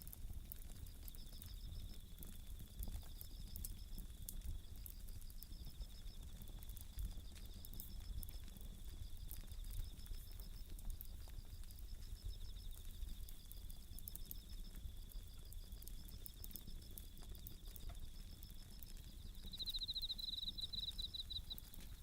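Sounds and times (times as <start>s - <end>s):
campfire crackling: 0.0s - 22.0s
crickets trilling: 0.2s - 22.0s.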